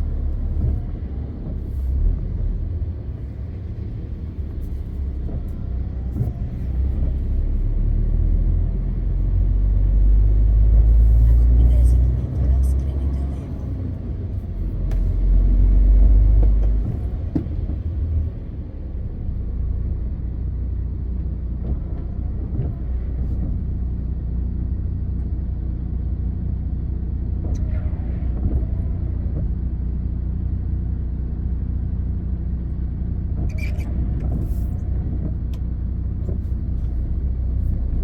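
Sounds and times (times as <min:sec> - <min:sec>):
road noise: 0:00.0 - 0:38.0
truck diesel engine rumbling: 0:00.0 - 0:38.0.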